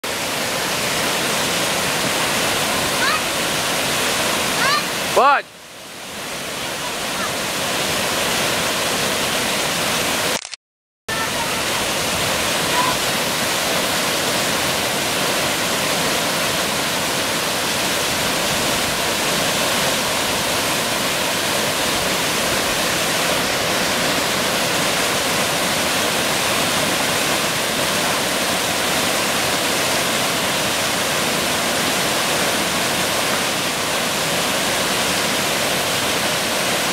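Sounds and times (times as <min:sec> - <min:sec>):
waterfall crashing: 0:00.0 - 0:10.4, 0:11.1 - 0:36.9.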